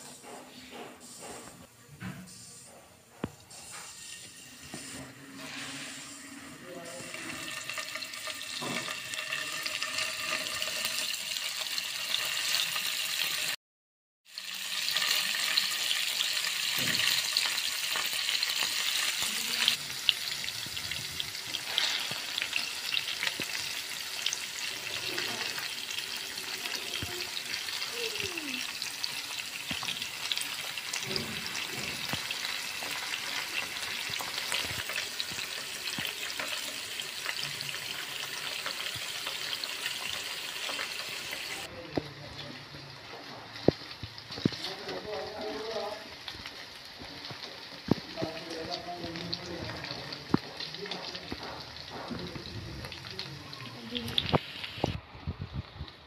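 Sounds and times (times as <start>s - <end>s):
food sizzling in hot oil: 3.5s - 13.6s, 14.2s - 56.0s.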